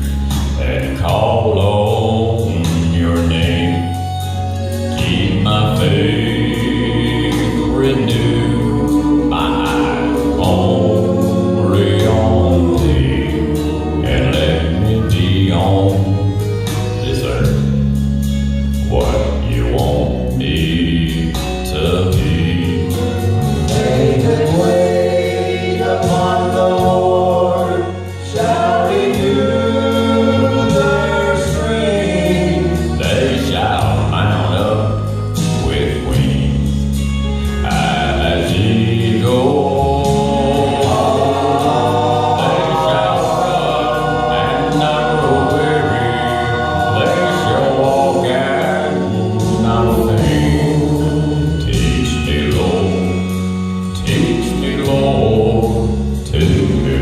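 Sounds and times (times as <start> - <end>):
bass accompaniment: 0.0 - 57.0
voices singing gospel in harmony: 0.0 - 57.0.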